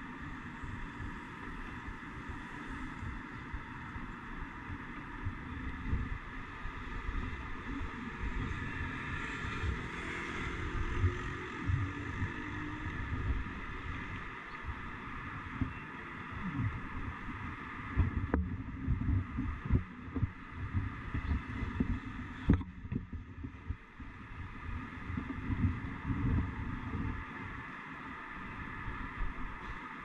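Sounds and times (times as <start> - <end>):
street traffic hiss: 0.0 - 30.0
wind buffeting microphone: 0.0 - 30.0.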